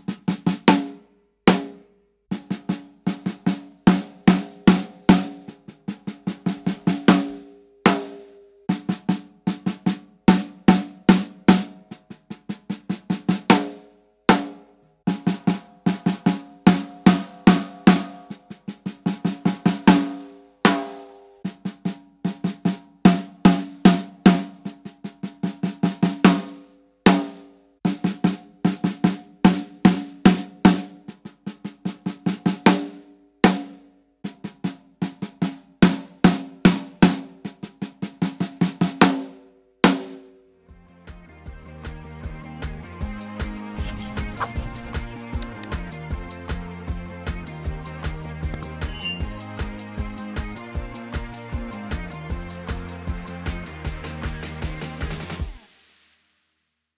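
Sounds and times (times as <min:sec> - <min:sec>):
snare drum played with sticks: 0:00.0 - 0:40.4, 0:43.8 - 0:45.9, 0:48.5 - 0:55.6.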